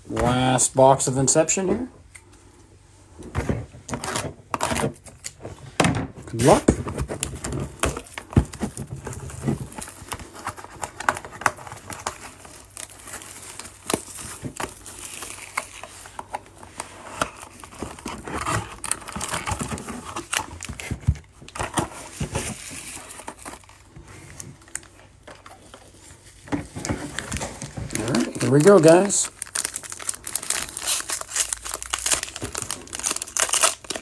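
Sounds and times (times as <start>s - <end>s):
shrink wrap crinkling and tearing: 6.3s - 34.0s.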